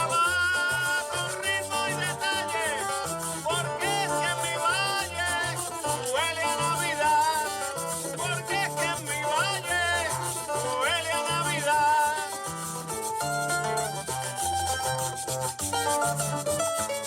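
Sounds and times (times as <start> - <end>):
person singing over bass notes: 0.0 - 14.2.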